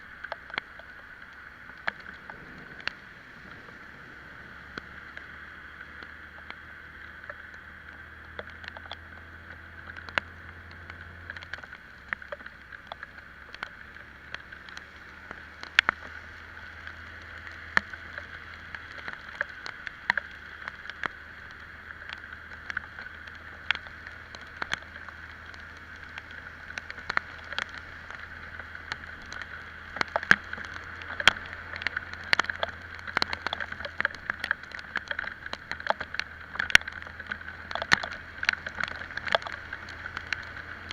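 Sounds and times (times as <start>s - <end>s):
hiss of wind and wet road: 0.0s - 40.9s
raindrops ticking on camera: 0.0s - 40.9s.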